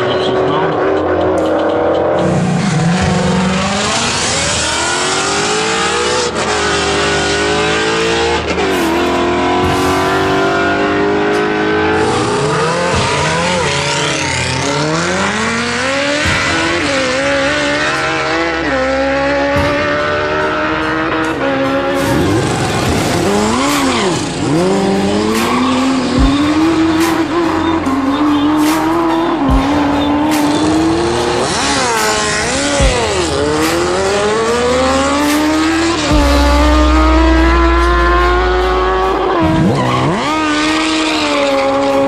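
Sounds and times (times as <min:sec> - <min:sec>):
racing engines revving: 0:00.0 - 0:42.0.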